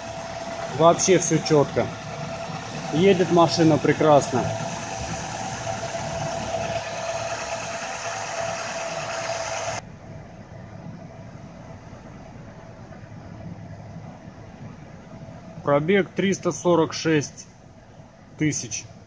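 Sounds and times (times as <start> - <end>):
car engine idling: 0.0 - 19.0
thin steady whine: 0.0 - 19.0.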